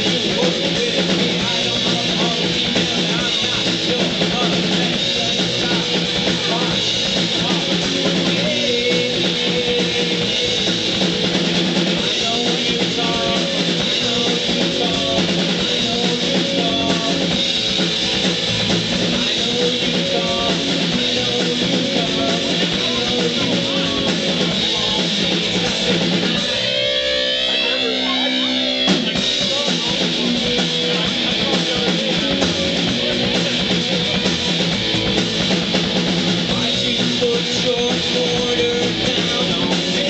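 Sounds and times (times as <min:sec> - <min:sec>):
rock band playing live: 0:00.0 - 0:40.0.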